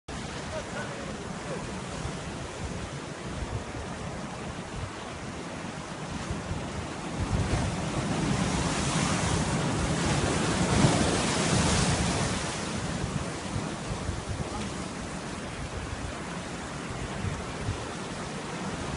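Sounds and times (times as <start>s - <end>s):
sea surf: 0.1s - 18.9s
wind buffeting microphone: 0.1s - 18.9s.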